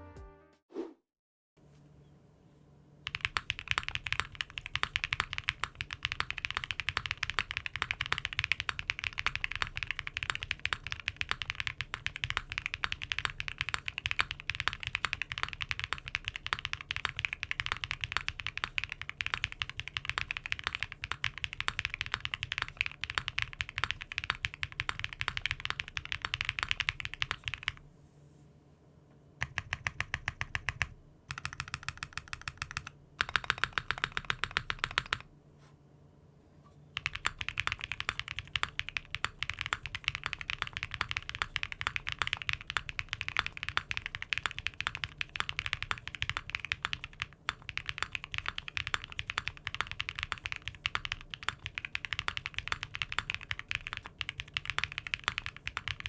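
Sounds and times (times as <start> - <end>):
typing on mechanical keyboard: 3.0 - 27.8, 29.4 - 35.3, 37.0 - 56.0.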